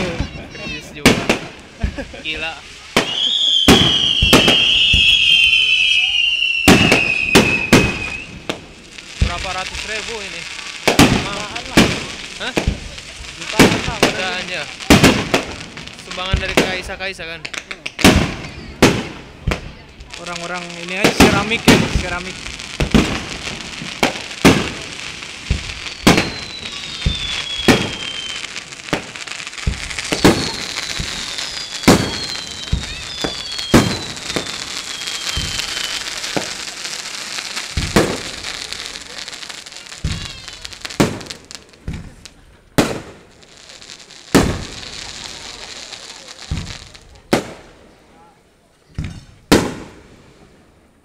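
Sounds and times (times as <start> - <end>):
firework shells bursting: 0.0 - 16.8, 17.4 - 47.9
fireworks crackling: 0.0 - 51.0
falling firework whistles: 1.1 - 15.7, 17.8 - 19.8, 20.6 - 48.0.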